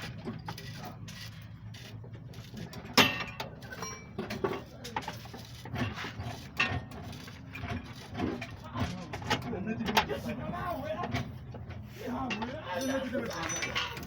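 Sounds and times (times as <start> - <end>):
metal tools clanking and knocking: 0.0 - 14.0.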